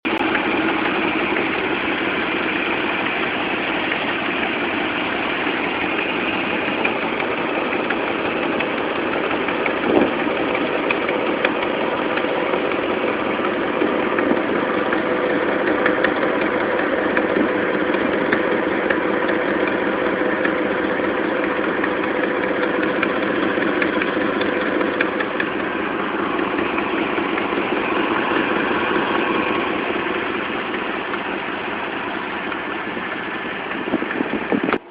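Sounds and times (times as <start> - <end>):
car engine idling: 0.0 - 34.9
rapid engine ticking: 0.0 - 34.9.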